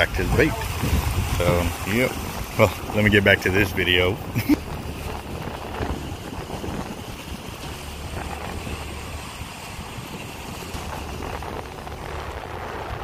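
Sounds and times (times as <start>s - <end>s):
choppy surf and waves: 0.0s - 13.0s
wind buffeting microphone: 0.0s - 13.0s.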